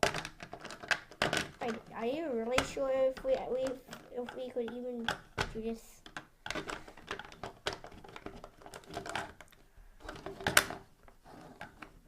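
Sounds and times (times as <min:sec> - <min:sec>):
plastic toy parts clicking: 0:00.0 - 0:10.9.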